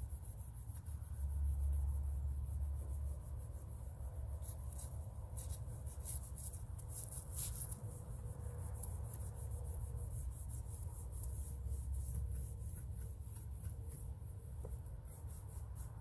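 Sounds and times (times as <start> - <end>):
scrubbing fabric: 2.4 - 16.0.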